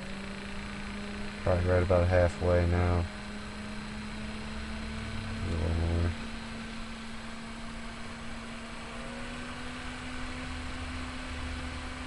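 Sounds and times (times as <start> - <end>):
computer fan running: 0.0 - 12.0.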